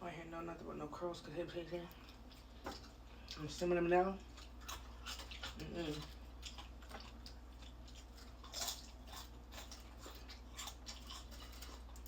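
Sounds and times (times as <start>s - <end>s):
steady low hum: 0.0s - 12.0s
chewing crispy fried chicken: 1.8s - 12.0s.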